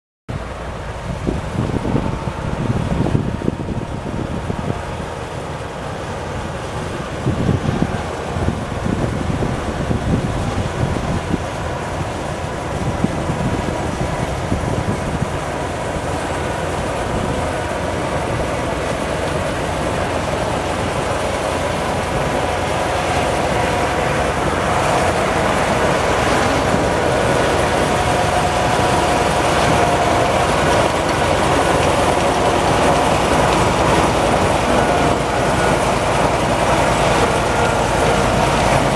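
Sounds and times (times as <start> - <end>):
diesel engine of snow grader: 0.3 - 38.9
steady machine whine: 0.4 - 38.9.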